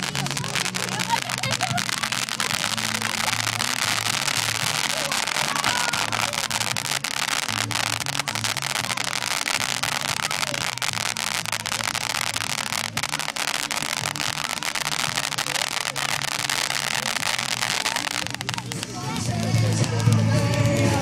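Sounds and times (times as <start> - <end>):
faint background music or murmur: 0.0 - 21.0
firework fountain hissing and crackling: 0.0 - 21.0.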